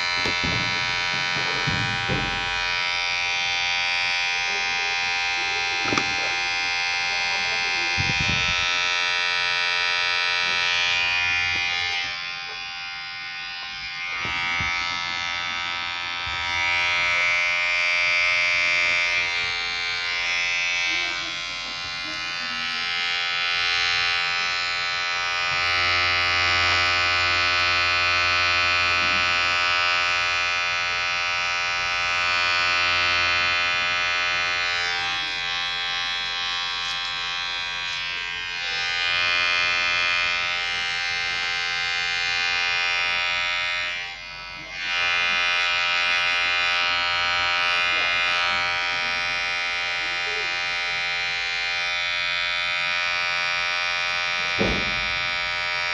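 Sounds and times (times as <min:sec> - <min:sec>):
electric hair clipper buzzing: 0:00.0 - 0:55.9.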